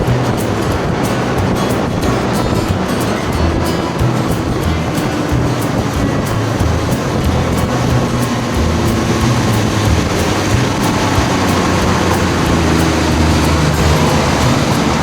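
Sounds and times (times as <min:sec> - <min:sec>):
outboard motor droning: 0:00.0 - 0:15.0
water washing: 0:00.0 - 0:15.0
wind noise: 0:00.0 - 0:15.0.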